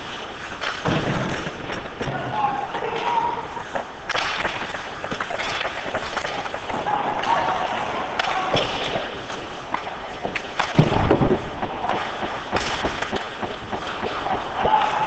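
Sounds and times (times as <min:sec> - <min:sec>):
skates scraping on ice: 0:00.0 - 0:15.0
sticks and puck clicking: 0:02.7 - 0:15.0.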